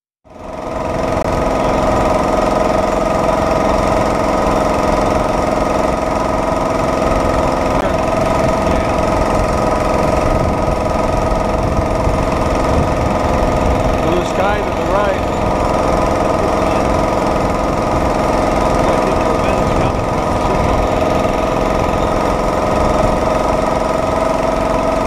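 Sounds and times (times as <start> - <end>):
small engine running: 0.3 - 25.0.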